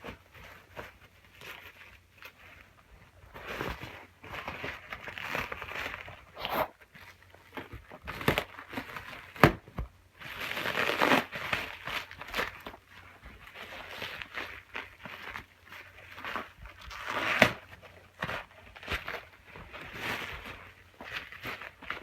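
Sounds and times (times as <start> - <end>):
plastic packaging crinkling and tearing: 3.3 - 22.0.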